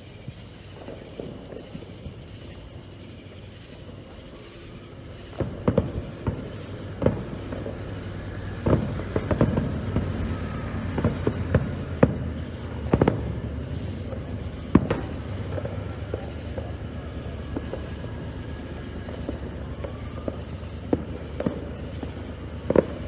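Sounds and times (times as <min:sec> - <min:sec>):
fireworks bangs: 0:00.3 - 0:02.9, 0:03.8 - 0:23.0.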